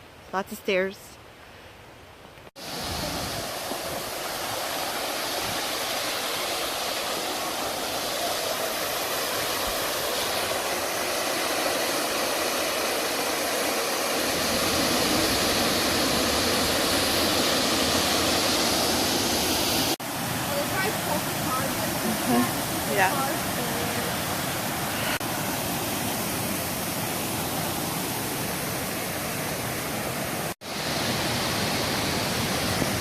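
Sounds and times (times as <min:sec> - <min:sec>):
waterfall rushing: 0:02.6 - 0:33.0.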